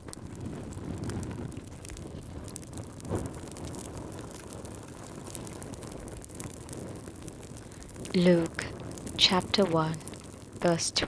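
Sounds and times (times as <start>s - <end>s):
low rumble of fire: 0.0s - 11.0s
wood fire crackling: 0.0s - 11.0s.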